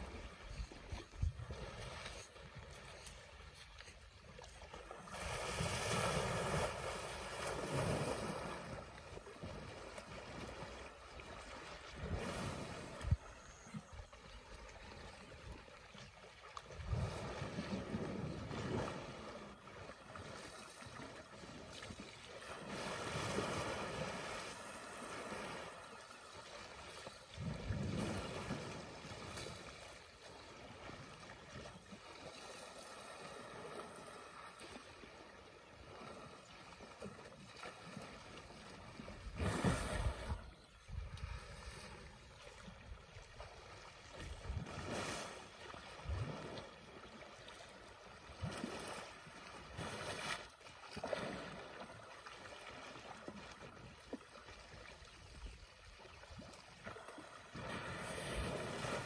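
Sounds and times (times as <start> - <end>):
water sloshing and splashing: 0.0 - 59.0.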